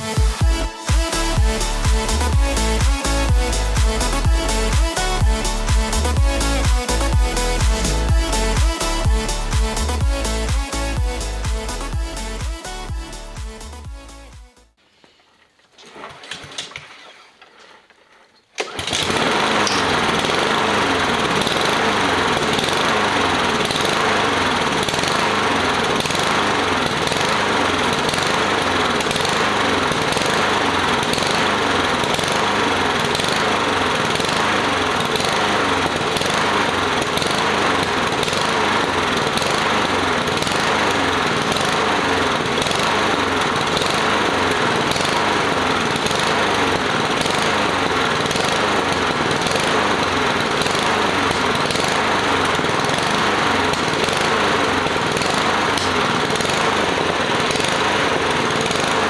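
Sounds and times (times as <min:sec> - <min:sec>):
lawn mower engine running: 0:00.0 - 0:14.3, 0:15.7 - 0:59.0.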